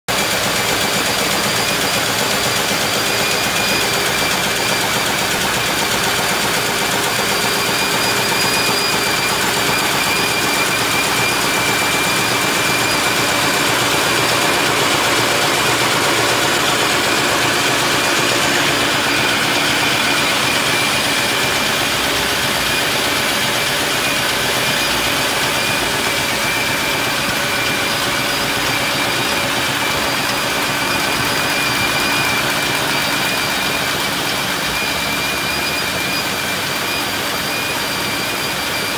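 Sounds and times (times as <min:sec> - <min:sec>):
printing press clattering: 0:00.1 - 0:38.9.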